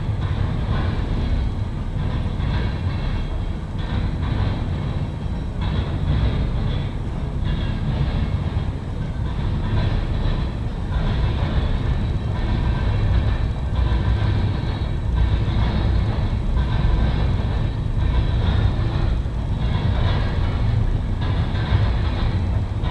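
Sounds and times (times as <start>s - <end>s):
freight cars rattling: 0.0s - 22.9s
freight train rumbling past: 0.0s - 22.9s.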